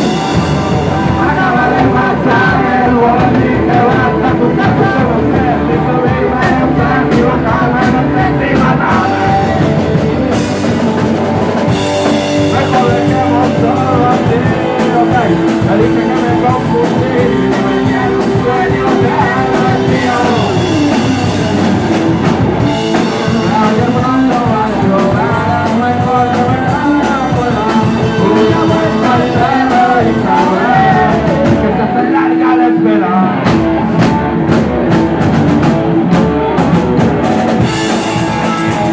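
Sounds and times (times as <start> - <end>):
bass guitar: 0.0 - 38.9
drum kit: 0.0 - 38.9
electric guitars: 0.0 - 38.9
man singing: 0.0 - 38.9.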